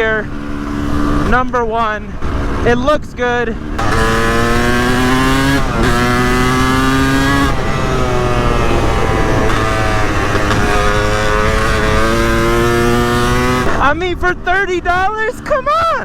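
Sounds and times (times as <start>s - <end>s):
dirt bike engine revving: 0.0s - 15.6s.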